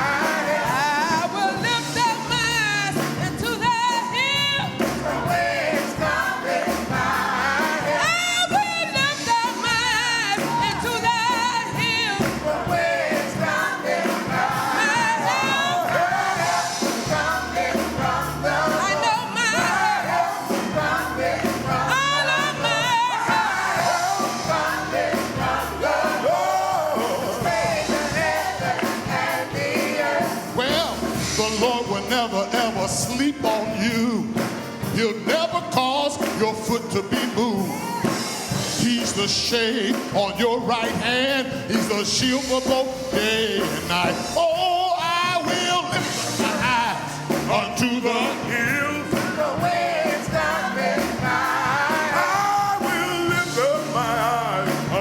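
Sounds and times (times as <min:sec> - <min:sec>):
gospel singing with band: 0:00.0 - 0:55.0.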